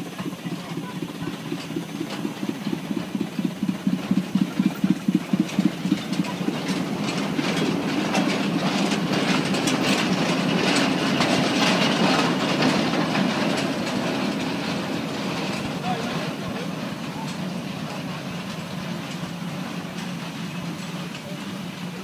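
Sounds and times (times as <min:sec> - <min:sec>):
diesel locomotive engine beat: 0:00.0 - 0:22.0
train wheels clattering over rails: 0:00.0 - 0:22.0.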